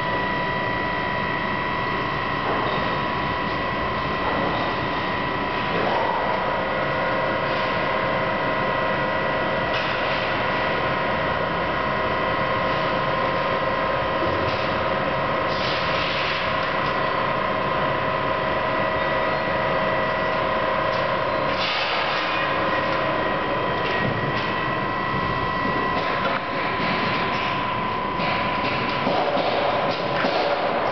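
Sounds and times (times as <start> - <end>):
machine hum: 0.0 - 30.9
machine whine: 0.0 - 30.9.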